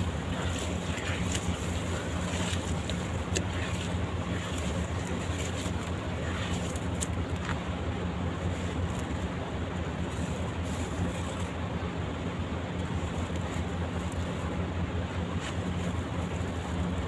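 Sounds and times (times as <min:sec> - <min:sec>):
low water wash: 0:00.0 - 0:17.0.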